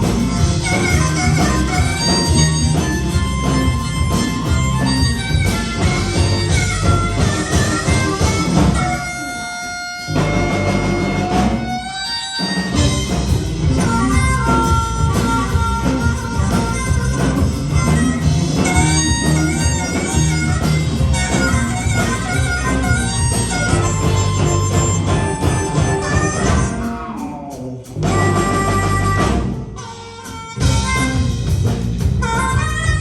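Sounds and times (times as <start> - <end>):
lead instrument long notes: 0.0 - 33.0
live blues band playing: 0.0 - 33.0.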